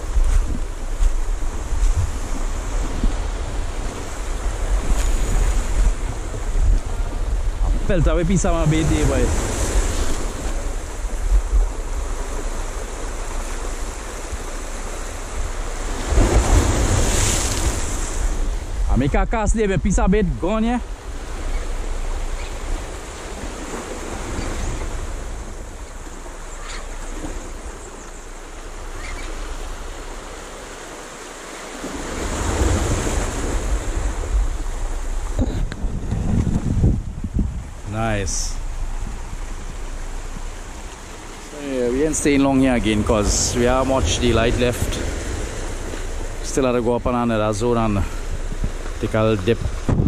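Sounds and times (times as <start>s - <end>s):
wind buffeting microphone: 0.0s - 27.6s, 32.1s - 47.2s, 47.9s - 50.0s
surf breaking over rocks: 0.0s - 27.8s, 28.4s - 50.0s.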